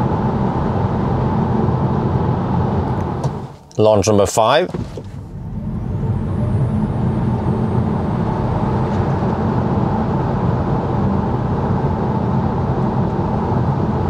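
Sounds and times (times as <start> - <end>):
tyre and wind noise in car: 0.0 - 3.7, 4.4 - 14.0.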